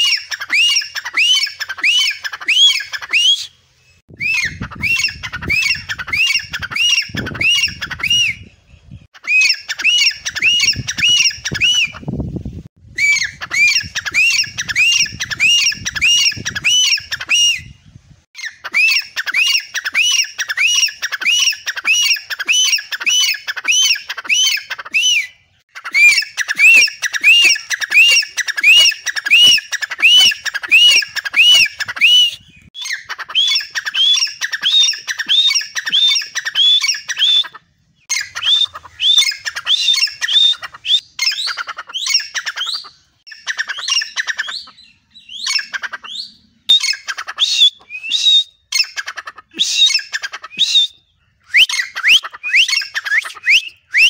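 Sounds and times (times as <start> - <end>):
bird calling in repeated notes: 0.0 - 54.0.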